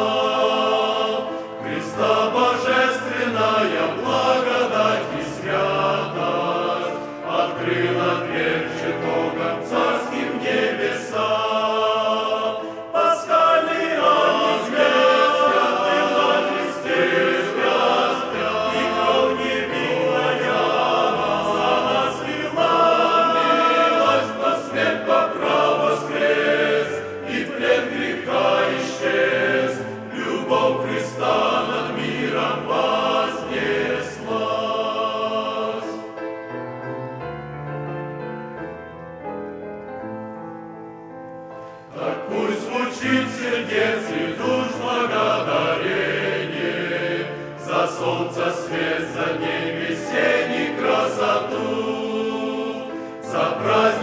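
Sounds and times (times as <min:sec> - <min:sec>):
men's choir singing a hymn: 0:00.0 - 0:36.6, 0:41.6 - 0:54.0
grand piano: 0:00.0 - 0:54.0.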